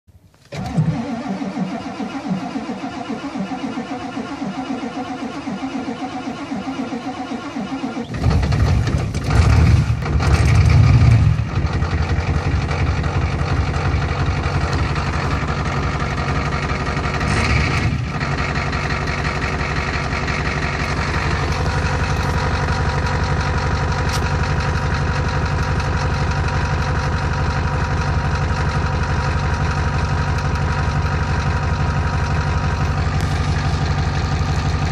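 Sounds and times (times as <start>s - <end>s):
diesel engine starting and idling: 0.1s - 34.9s.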